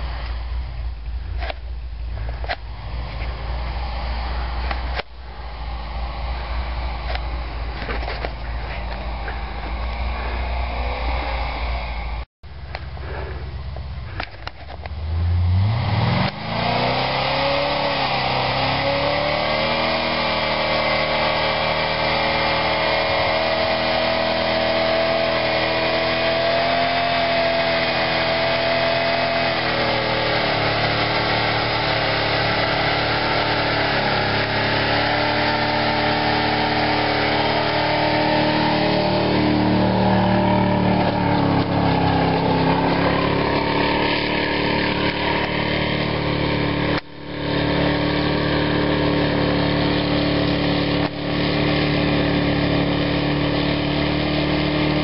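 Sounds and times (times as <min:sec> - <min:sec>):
truck engine revving under load: 0:00.0 - 0:55.0.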